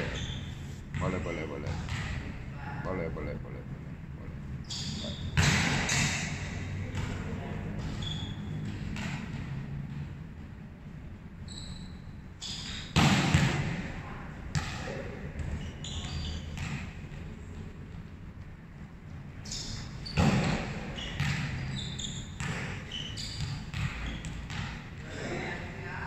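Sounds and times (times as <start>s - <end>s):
volleyballs hit and bouncing: 0.9s - 2.6s, 4.5s - 11.3s, 12.4s - 25.5s.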